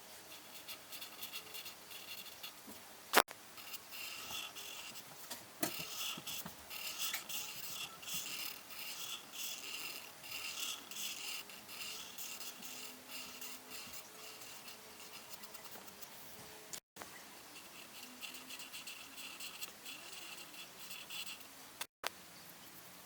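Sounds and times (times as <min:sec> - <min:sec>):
coloring tool scratching paper: 0:00.0 - 0:02.6, 0:03.6 - 0:16.4, 0:17.5 - 0:21.5.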